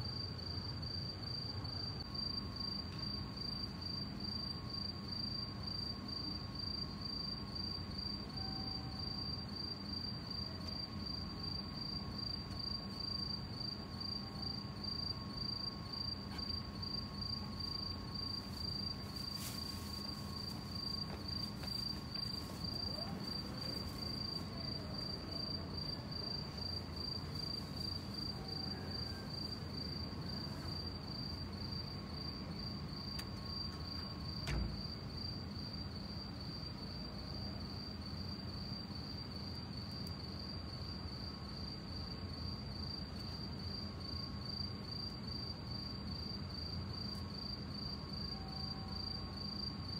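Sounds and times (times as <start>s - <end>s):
crickets chirping: 0.0s - 49.9s
faint steady tone: 0.0s - 49.9s.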